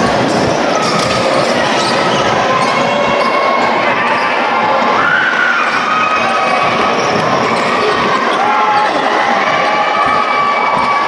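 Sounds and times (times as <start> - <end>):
children shouting: 0.0 - 11.0
crowd voices: 0.0 - 11.0.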